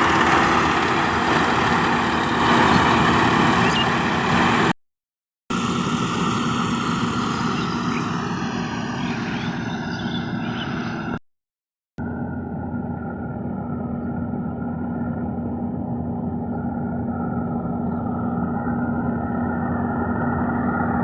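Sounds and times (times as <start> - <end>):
combine harvester engine and threshing: 0.0 - 4.7, 5.5 - 11.2, 12.0 - 21.0.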